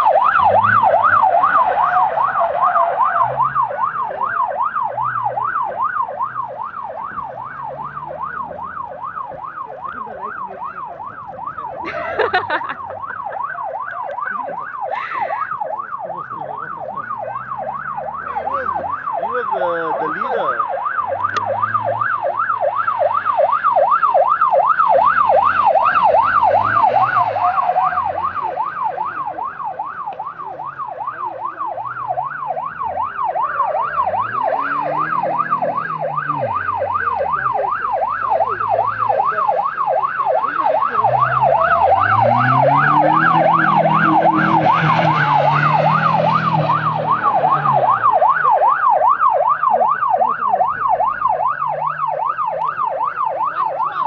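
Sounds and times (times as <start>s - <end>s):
car engine revving: 0.0s - 53.5s
police siren yelping: 0.0s - 54.0s.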